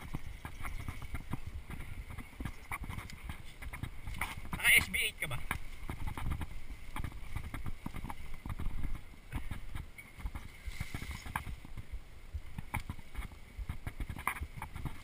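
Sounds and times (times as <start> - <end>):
bike rattling over rough trail: 0.0 - 15.0.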